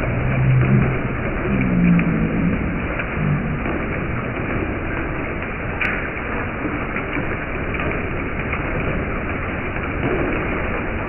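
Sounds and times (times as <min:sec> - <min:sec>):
hail and rain falling: 0:00.0 - 0:11.0.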